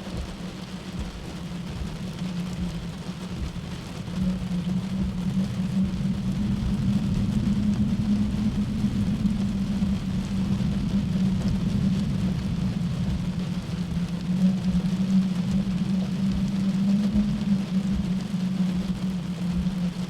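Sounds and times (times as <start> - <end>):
low rumble: 0.0 - 20.0
steady rain: 0.0 - 20.0.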